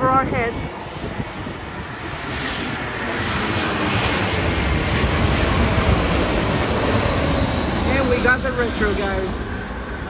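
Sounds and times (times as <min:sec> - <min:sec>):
jet airliner passing overhead: 0:00.0 - 0:10.0.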